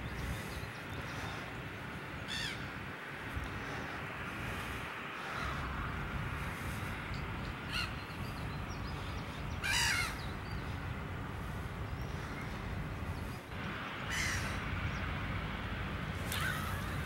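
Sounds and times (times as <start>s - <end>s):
gulls calling: 0.0s - 15.2s, 16.1s - 17.0s
low background noise: 0.0s - 17.0s.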